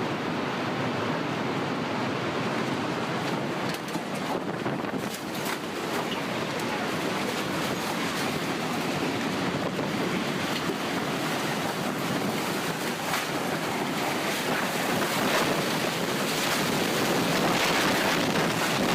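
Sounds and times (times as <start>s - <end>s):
tornado wind rushing: 0.0s - 18.9s.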